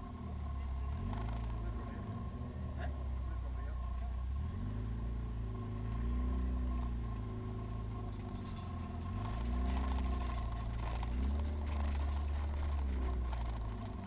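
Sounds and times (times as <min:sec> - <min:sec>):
car engine drone: 0:00.0 - 0:14.0.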